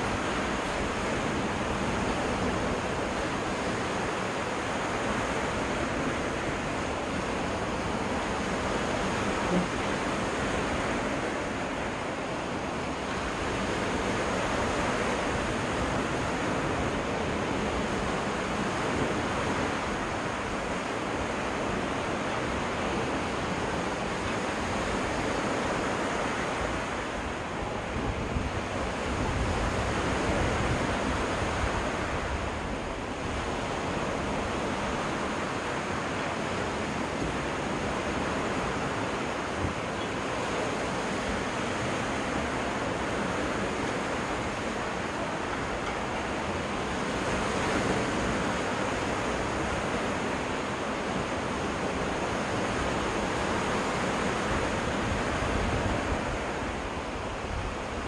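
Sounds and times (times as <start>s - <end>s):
waves washing onto beach: 0.0s - 58.0s
wind rumbling on microphone: 0.0s - 58.0s.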